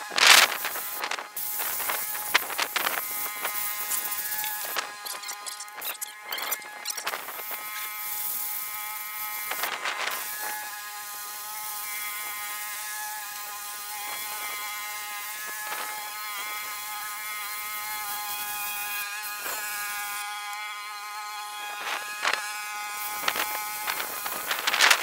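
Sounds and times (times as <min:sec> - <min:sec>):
water spraying with buzzing whine: 0:00.0 - 0:25.0.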